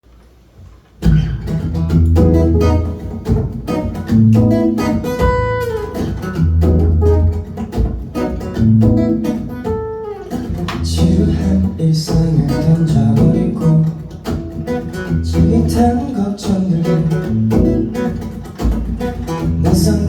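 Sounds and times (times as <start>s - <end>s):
acoustic guitar playing: 1.0s - 20.0s.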